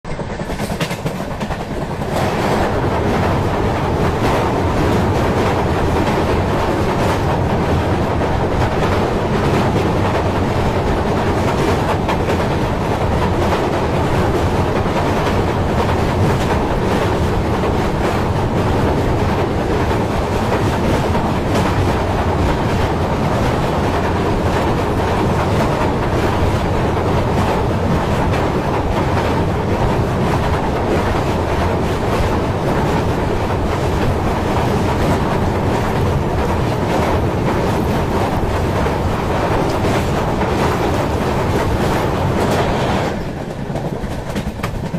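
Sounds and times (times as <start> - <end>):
train wheels on rails: 0.1 - 44.9.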